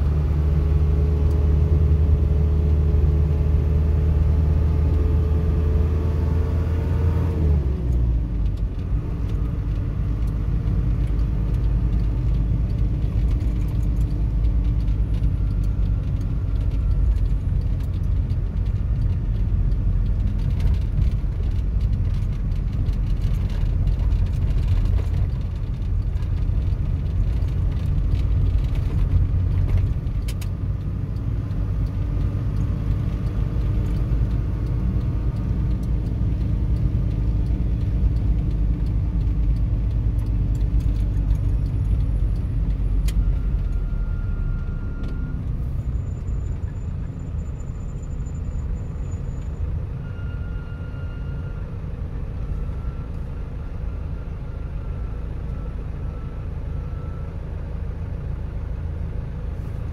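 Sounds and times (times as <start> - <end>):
car engine: 0.0 - 59.9
road rumble: 0.0 - 59.9.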